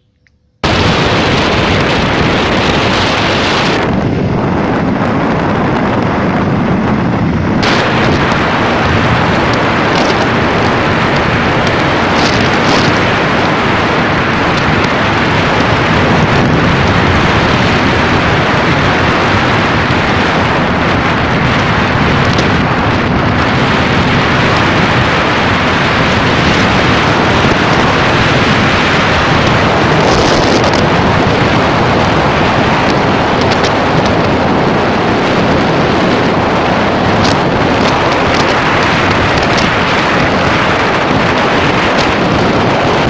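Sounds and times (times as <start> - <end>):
motorcycle engine: 0.0 - 43.0
wind buffeting microphone: 0.6 - 43.0.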